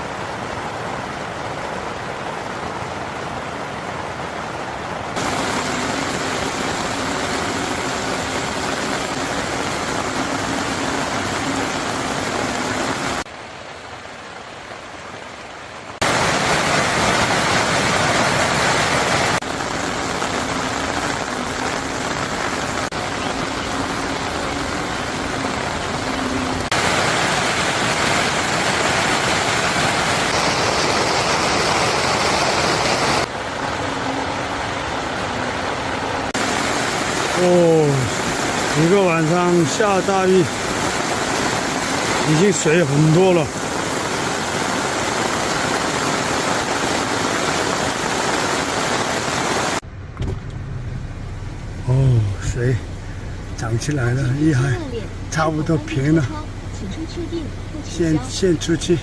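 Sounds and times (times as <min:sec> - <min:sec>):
mountain stream rushing: 0:00.0 - 0:49.9, 0:51.9 - 0:59.0.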